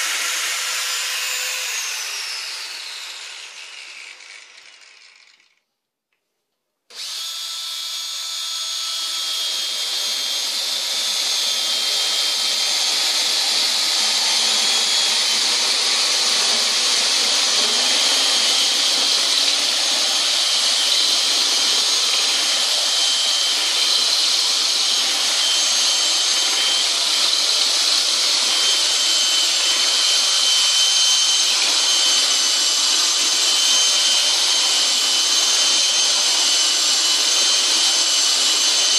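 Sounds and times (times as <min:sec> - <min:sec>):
drill grinding into tile: 0:00.0 - 0:05.6, 0:06.9 - 0:38.9.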